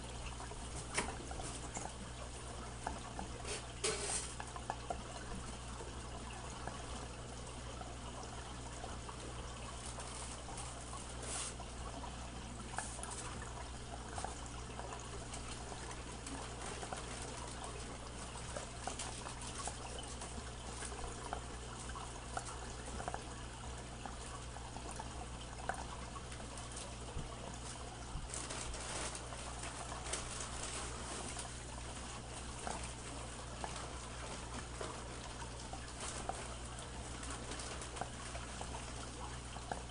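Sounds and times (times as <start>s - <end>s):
aquarium filter trickling and humming: 0.0s - 39.9s.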